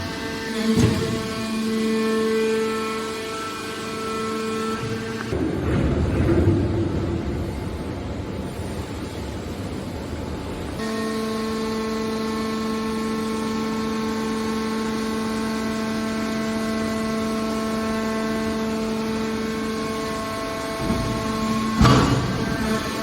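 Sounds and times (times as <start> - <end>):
hydraulic baler running: 0.0 - 23.0.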